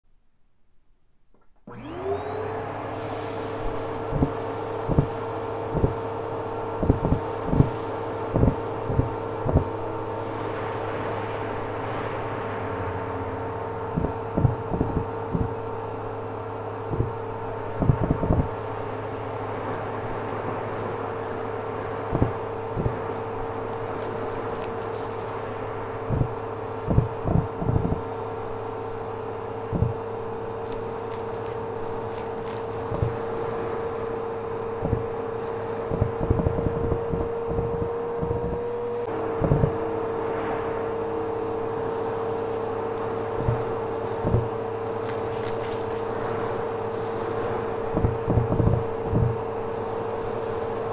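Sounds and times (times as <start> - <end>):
vacuum cleaner running: 1.7 - 50.9
bright hiss: 3.6 - 28.6, 29.7 - 38.0, 39.0 - 50.9.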